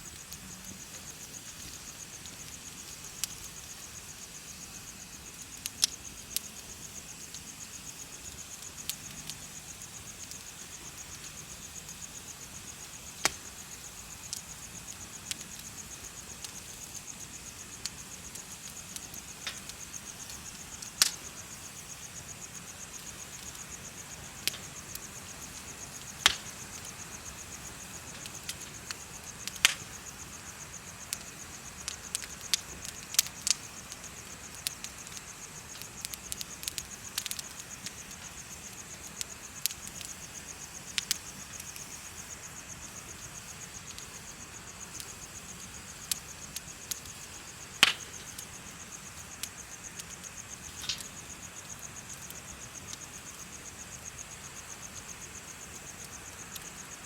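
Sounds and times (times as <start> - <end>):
bonfire crackling: 0.0 - 57.0
insects chirping trill: 0.0 - 57.0.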